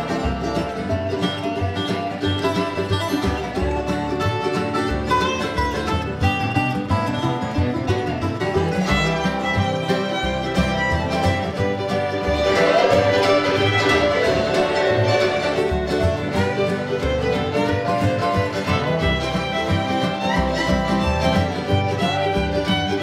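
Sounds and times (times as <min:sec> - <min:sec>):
fiddle solo: 0:00.0 - 0:23.0
strummed guitars: 0:00.0 - 0:23.0
washtub bass plucking: 0:00.0 - 0:23.0.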